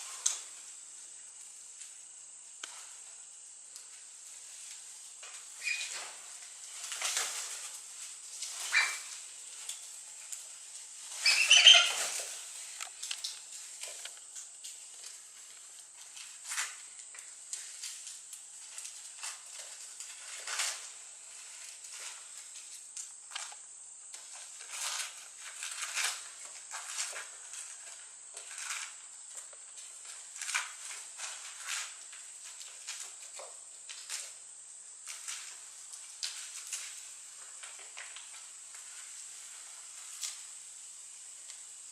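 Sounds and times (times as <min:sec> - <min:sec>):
dry leaves rustling and scraping: 0:03.8 - 0:41.9.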